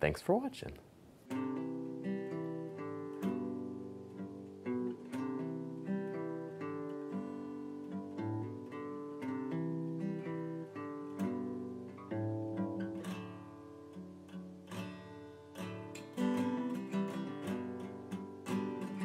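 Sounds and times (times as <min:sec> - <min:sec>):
acoustic guitar strumming: 0:01.2 - 0:19.0.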